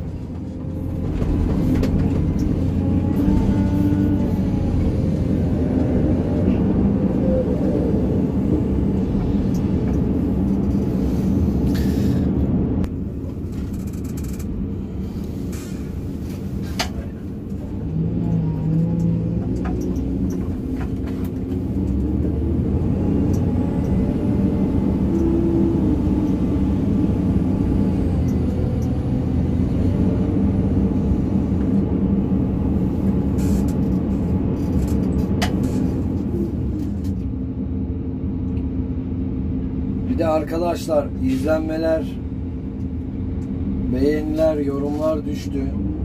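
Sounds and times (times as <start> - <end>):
excavator diesel engine: 0.0 - 46.0.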